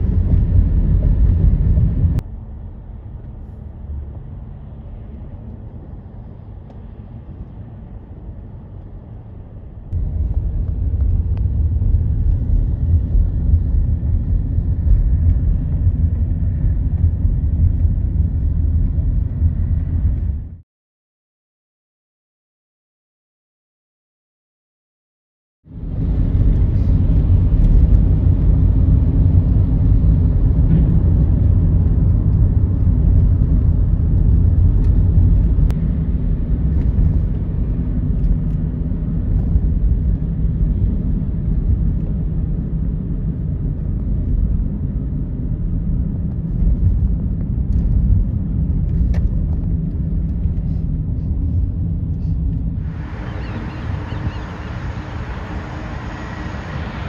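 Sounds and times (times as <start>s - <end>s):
faint engine hum: 0.0s - 20.6s, 25.7s - 57.0s
low vehicle rumble: 0.0s - 20.6s, 25.7s - 57.0s.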